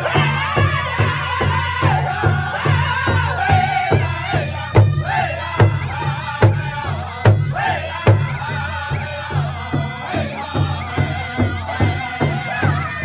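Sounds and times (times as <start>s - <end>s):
big drum struck in unison: 0.0s - 13.0s
group singing in high voices: 0.0s - 13.0s.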